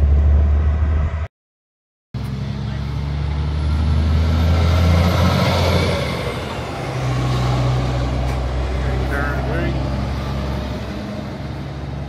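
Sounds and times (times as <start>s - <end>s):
tyre and road noise: 0.0s - 1.3s, 2.2s - 12.0s
truck diesel engine passing: 2.2s - 12.0s.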